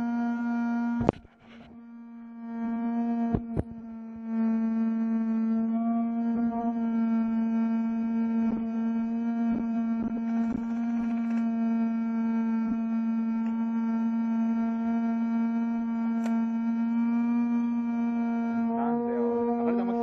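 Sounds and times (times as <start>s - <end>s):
electric fan whining: 2.4s - 20.0s.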